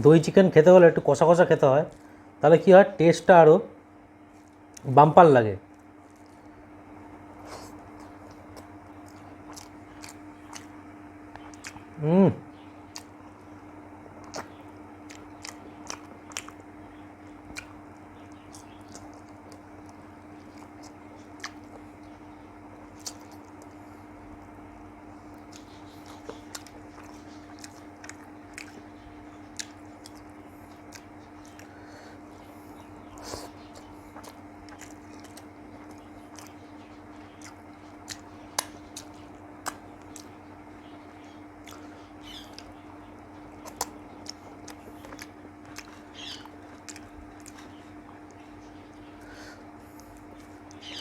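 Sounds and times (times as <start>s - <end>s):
steady hum: 0.0s - 51.0s
person chewing: 5.7s - 12.2s, 12.8s - 40.5s, 41.6s - 51.0s.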